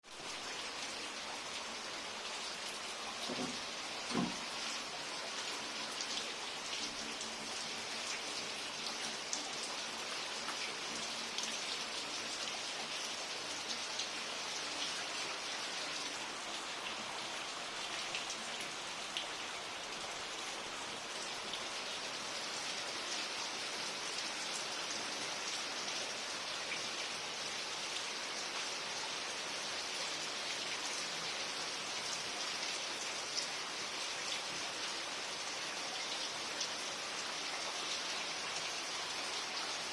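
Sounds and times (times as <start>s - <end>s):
rain drops ticking on leaves: 0.0s - 39.9s.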